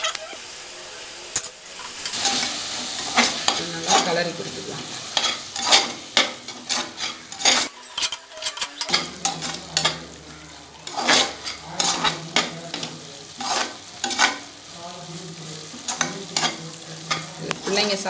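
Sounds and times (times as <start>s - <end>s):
steady sizzle: 0.0s - 18.0s
metal spoon stirring and scraping: 1.3s - 18.0s.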